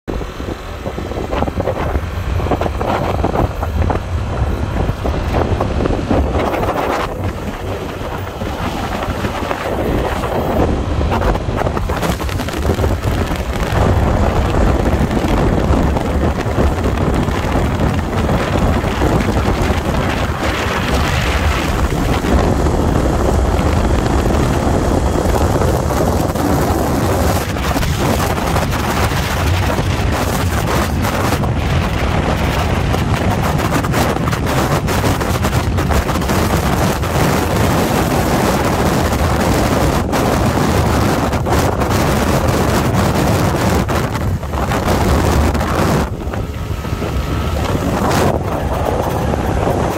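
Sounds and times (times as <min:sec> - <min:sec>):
scooter engine and tyre noise: 0:00.1 - 0:49.9
wind buffeting microphone: 0:00.1 - 0:49.9.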